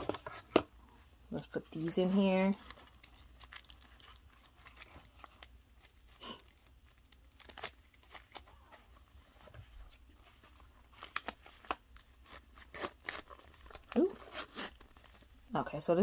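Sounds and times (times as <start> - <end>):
plastic pouches crinkling: 1.7 - 15.5.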